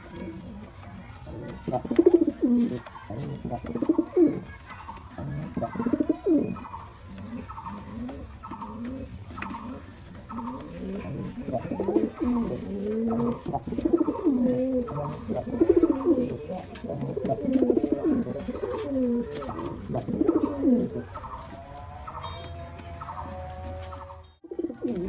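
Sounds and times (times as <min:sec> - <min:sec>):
pigeon cooing: 0:00.0 - 0:25.0.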